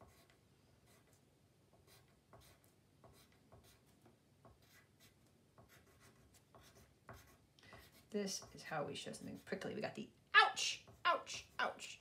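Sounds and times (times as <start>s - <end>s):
faint pencil scratching on paper: 0.0s - 9.8s.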